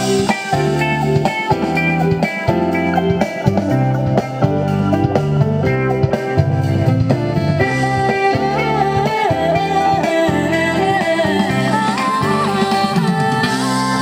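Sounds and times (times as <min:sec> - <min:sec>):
loud band music over loudspeakers: 0:00.0 - 0:14.0.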